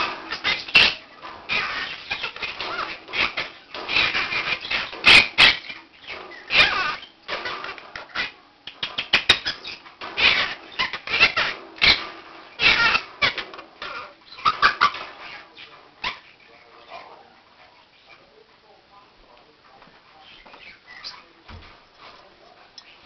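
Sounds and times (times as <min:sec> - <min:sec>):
parakeet squawking and chattering: 0:00.0 - 0:18.3, 0:20.2 - 0:21.4.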